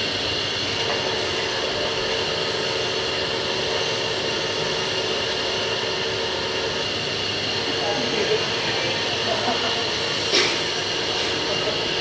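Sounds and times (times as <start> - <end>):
hydraulic machinery hum: 0.0 - 12.0.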